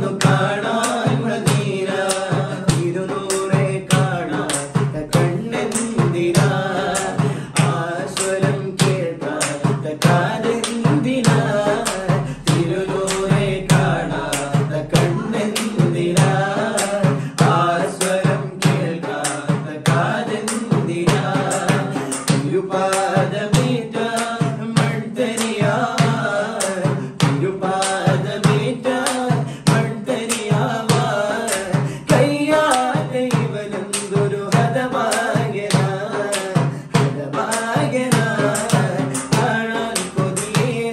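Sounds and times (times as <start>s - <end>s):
men singing in unison: 0.0s - 40.9s
percussion beat: 0.0s - 40.9s.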